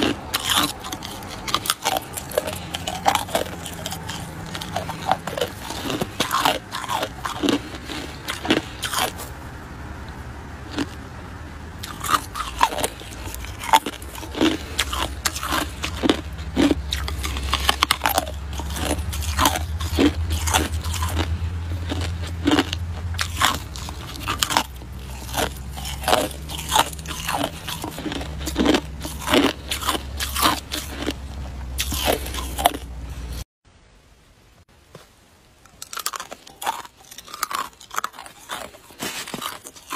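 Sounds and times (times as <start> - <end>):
ice crunching between teeth: 0.0 - 9.3, 10.6 - 11.0, 11.8 - 32.9, 35.7 - 39.9
low steady rumble: 0.0 - 35.7.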